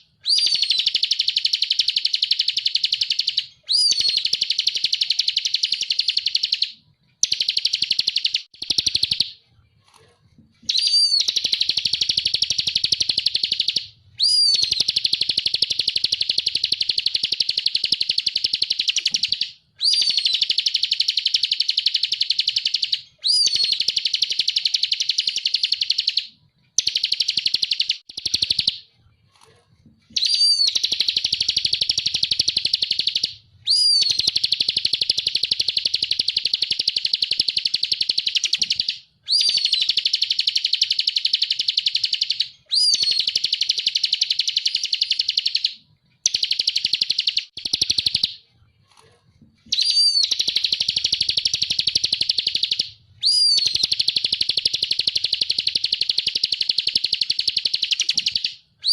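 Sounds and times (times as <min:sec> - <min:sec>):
bird singing fast trills: 0:00.0 - 0:09.4, 0:10.6 - 0:28.9, 0:30.1 - 0:48.4, 0:49.7 - 0:58.9.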